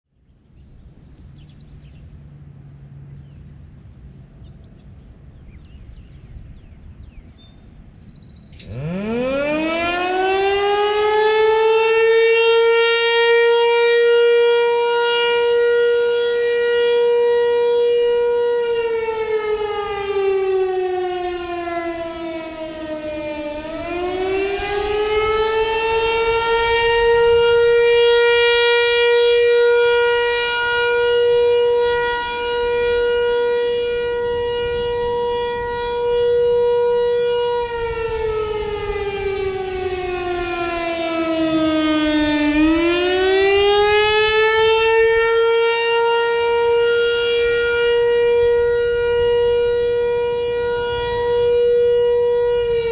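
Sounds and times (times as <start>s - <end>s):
outdoor warning siren wailing: 7.0s - 52.9s.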